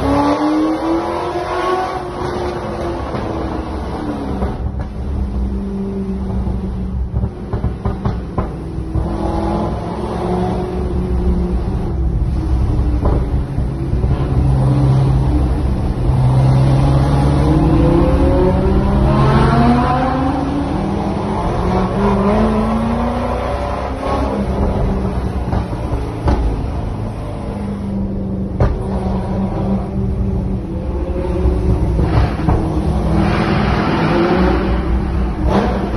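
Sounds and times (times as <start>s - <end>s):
sports car engines accelerating: 0.0s - 35.9s.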